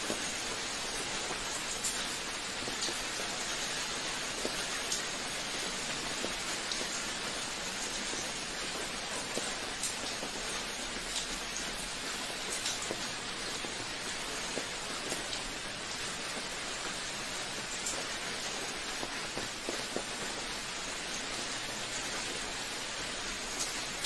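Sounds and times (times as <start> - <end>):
steady rain hiss: 0.0 - 24.0
raindrops ticking: 0.1 - 24.0.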